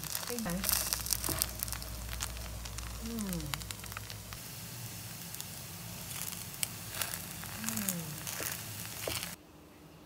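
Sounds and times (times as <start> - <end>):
crepe sizzling in oil: 0.0 - 9.4
small crackles: 0.0 - 9.4.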